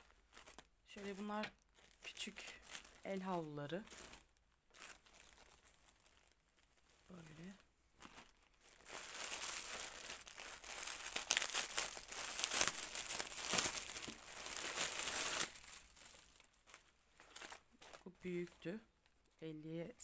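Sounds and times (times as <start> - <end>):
plastic bag crinkling: 0.0 - 18.6.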